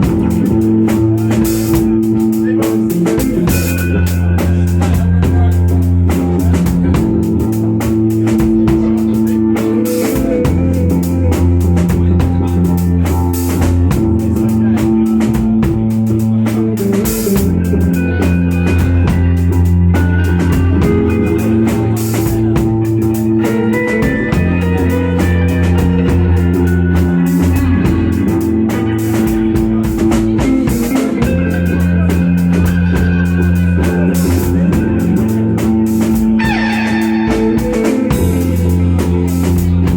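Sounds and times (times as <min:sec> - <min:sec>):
busy drumming: 0:00.0 - 0:39.9
rock band playing: 0:00.0 - 0:39.9.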